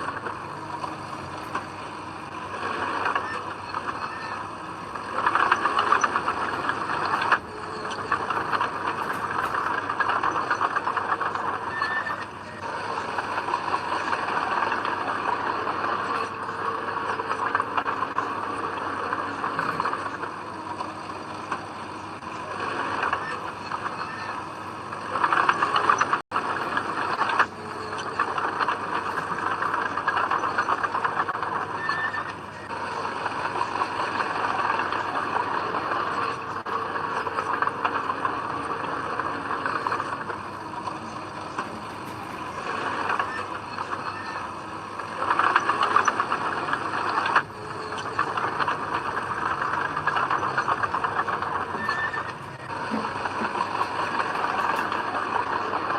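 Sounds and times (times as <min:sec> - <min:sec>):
diesel engine under load: 0:00.0 - 0:55.9
steel tracks clattering: 0:00.0 - 0:55.9.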